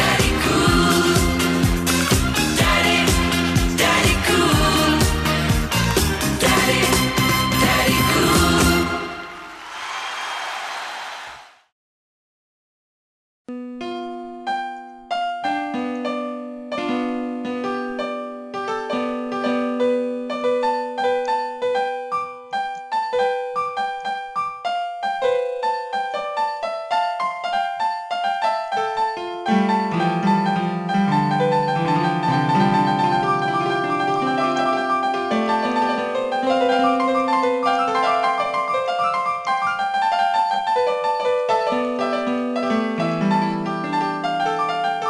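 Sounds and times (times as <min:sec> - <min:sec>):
piano music: 0:00.0 - 0:09.6, 0:13.5 - 0:45.0.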